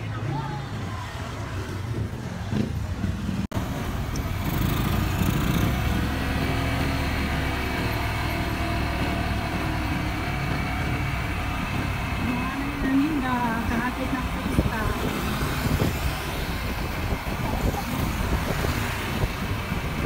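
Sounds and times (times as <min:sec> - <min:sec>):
wind and road noise: 0:00.0 - 0:20.0
small motorcycle engine running: 0:02.5 - 0:20.0.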